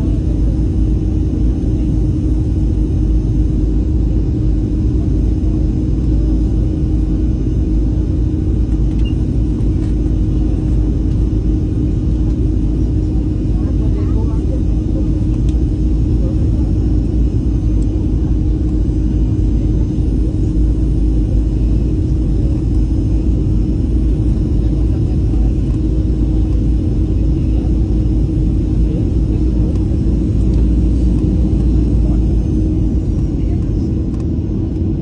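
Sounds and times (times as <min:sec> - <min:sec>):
airliner engine and airflow rumble: 0:00.0 - 0:35.0
constant low hum: 0:00.0 - 0:35.0.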